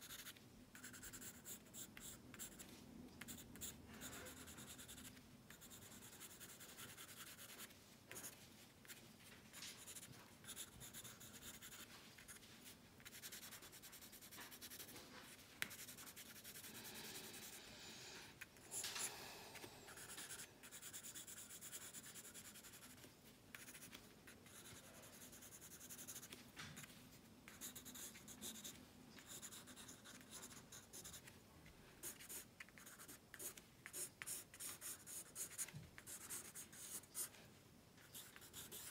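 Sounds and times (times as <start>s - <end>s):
pencil scratching on paper: 0.0s - 9.0s, 9.6s - 15.0s, 15.6s - 17.6s, 19.6s - 26.9s, 27.5s - 31.3s, 32.0s - 37.3s, 38.0s - 38.9s.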